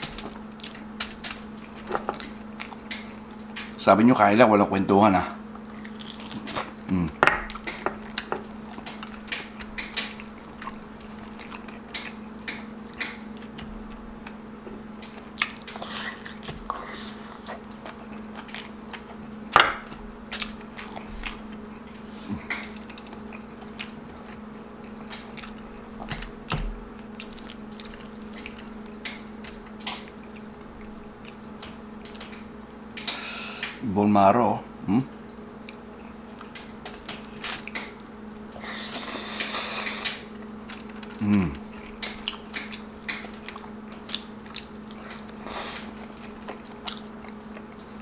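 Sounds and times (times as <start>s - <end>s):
steady low hum: 0.0s - 48.0s
chewing with wet mouth clicks: 0.2s - 3.8s, 5.5s - 32.4s, 35.6s - 48.0s.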